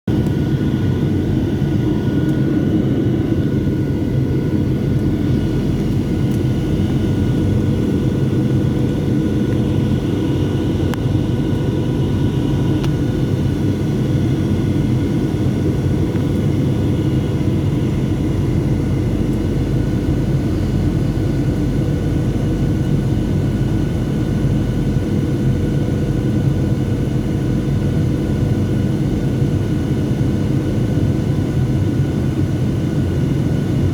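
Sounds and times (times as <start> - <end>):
airplane cabin rumble: 0.1 - 33.9
jet engines whining: 0.1 - 33.9.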